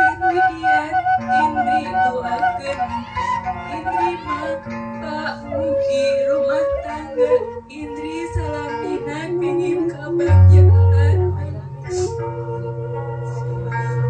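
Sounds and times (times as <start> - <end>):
slow background music: 0.0 - 14.0.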